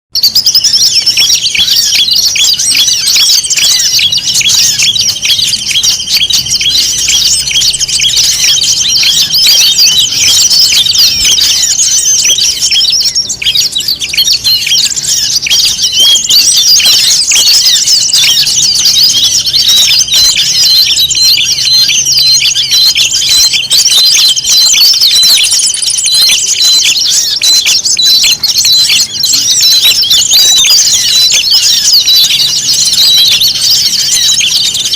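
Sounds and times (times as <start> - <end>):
songbirds chirping and twittering: 0.1 - 34.9.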